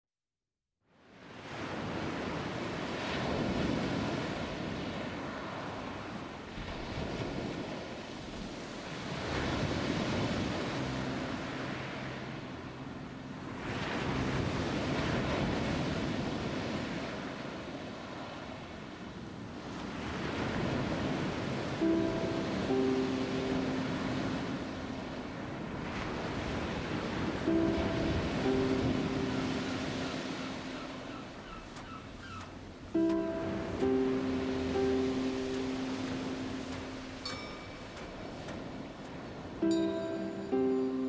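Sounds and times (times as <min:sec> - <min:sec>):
wind: 0:00.8 - 0:41.0
sea surf: 0:01.1 - 0:41.0.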